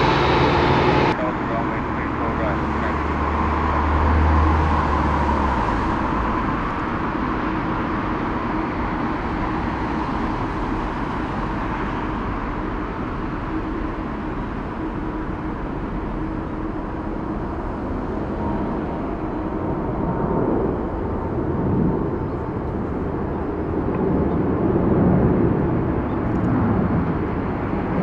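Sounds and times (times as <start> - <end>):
broad outdoor rushing roar: 0.0 - 28.0.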